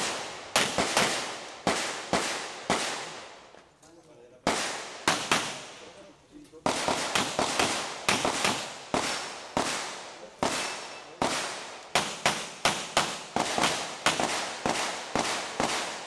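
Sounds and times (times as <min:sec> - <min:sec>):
rapid pistol fire: 0:00.0 - 0:03.3, 0:04.4 - 0:05.9, 0:06.6 - 0:16.0.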